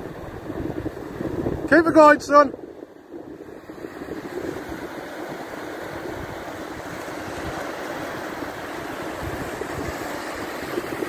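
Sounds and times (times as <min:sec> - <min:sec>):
surf breaking on beach: 0:00.0 - 0:11.0
wind rumbling on microphone: 0:00.0 - 0:11.0.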